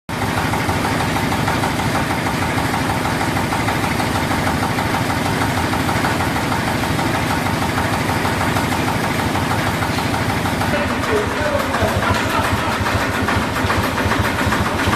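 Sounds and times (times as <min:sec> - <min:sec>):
stationary engines clattering: 0:00.1 - 0:14.9.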